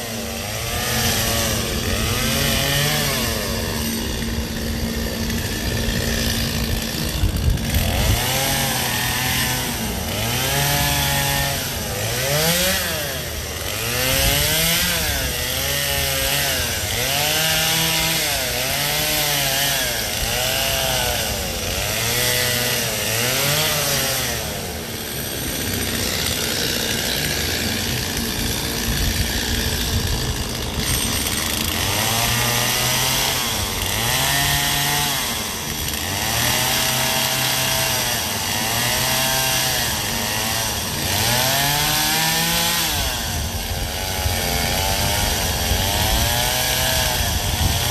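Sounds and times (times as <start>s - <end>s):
chainsaw cutting ice: 0.0s - 47.9s
chainsaw revving: 0.0s - 47.9s.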